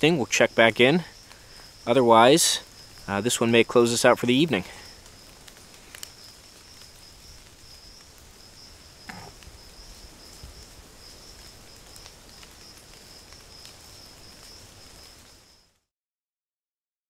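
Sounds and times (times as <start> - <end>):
insects trilling: 0.0 - 15.8.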